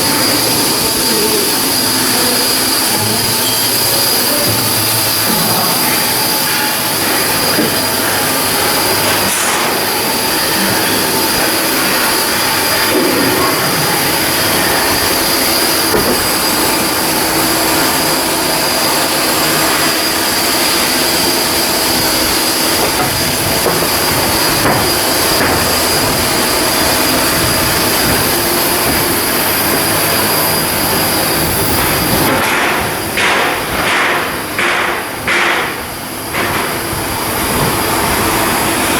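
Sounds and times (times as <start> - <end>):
high steady whining tones: 0.0 - 38.9
metalworking machinery hissing: 0.0 - 38.9.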